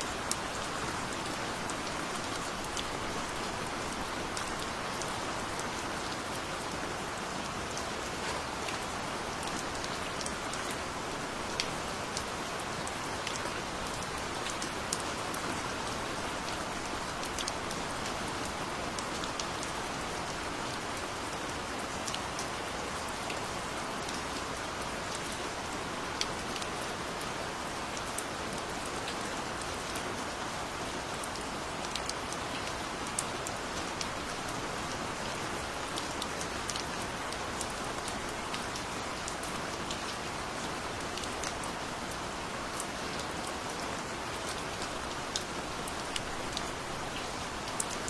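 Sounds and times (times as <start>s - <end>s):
gentle rain hiss: 0.0s - 48.0s
raindrops ticking on a surface: 0.1s - 48.0s.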